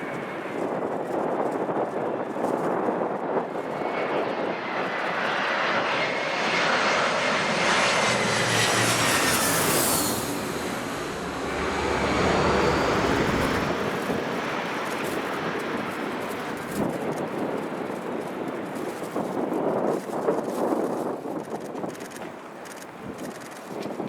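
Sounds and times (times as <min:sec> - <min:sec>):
airliner engines whining: 0:00.0 - 0:23.8.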